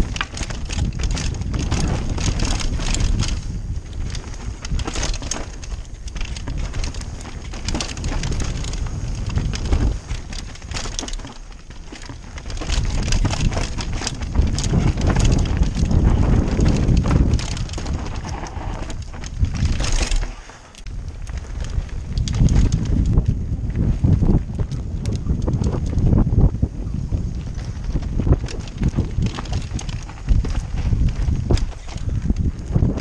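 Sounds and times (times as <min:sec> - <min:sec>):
tyres crunching on stones: 0:00.0 - 0:26.2, 0:27.2 - 0:33.0
bike frame and chain rattling: 0:00.0 - 0:33.0
wind buffeting microphone: 0:00.0 - 0:33.0.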